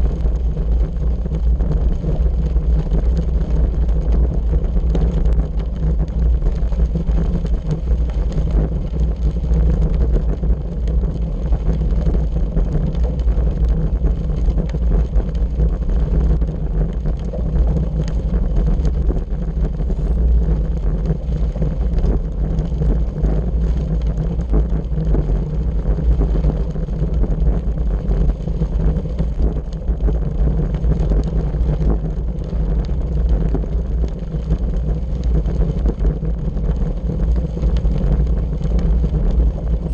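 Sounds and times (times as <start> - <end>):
bike tyres on gravel: 0.0 - 39.9
wind buffeting microphone: 0.0 - 39.9.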